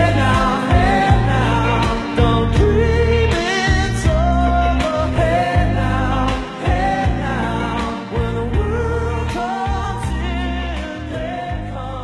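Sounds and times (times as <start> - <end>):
bass: 0.0 - 12.0
person singing: 0.0 - 12.0.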